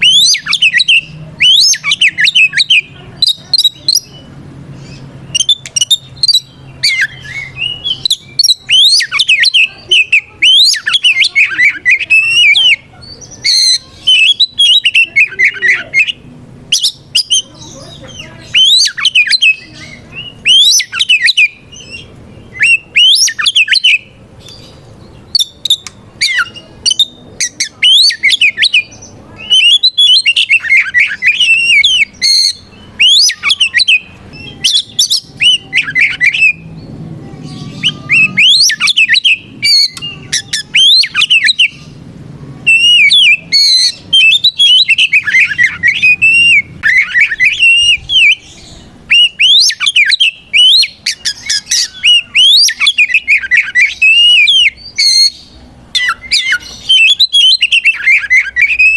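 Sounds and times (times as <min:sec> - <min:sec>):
bird singing whistles and chirps: 0:00.0 - 0:36.9, 0:37.5 - 0:42.0, 0:42.7 - 0:58.9.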